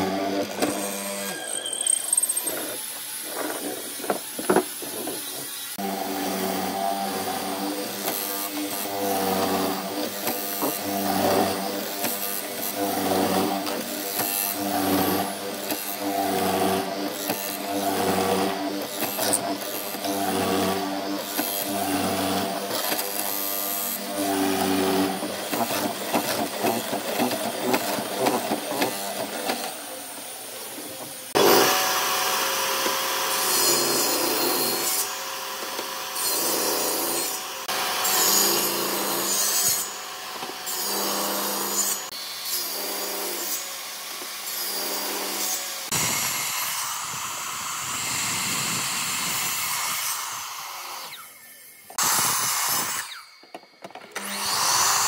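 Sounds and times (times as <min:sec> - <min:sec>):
mitre saw cutting boards: 0:00.0 - 0:55.0
table saw cutting wood: 0:00.0 - 0:55.0.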